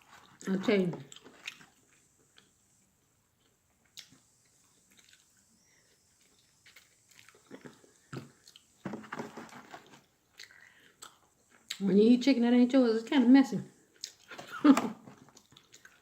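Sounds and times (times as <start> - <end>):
person chewing: 0.0 - 11.8, 13.9 - 16.0.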